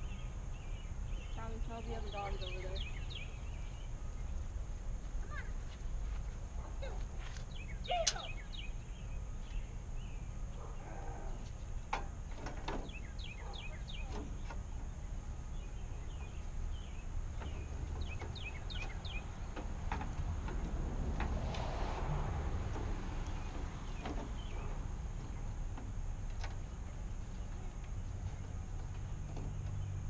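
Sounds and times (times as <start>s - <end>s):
small birds chirping: 0.0s - 21.5s, 22.7s - 30.0s
low outdoor rumble: 0.0s - 30.0s.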